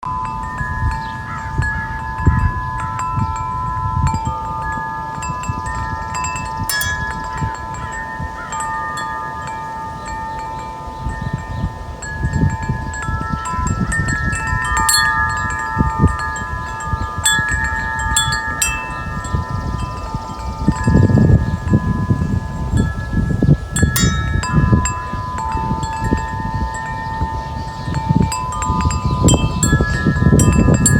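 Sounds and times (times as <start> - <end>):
wind chime ringing: 0.0 - 30.9
wind rumble on microphone: 0.0 - 30.9.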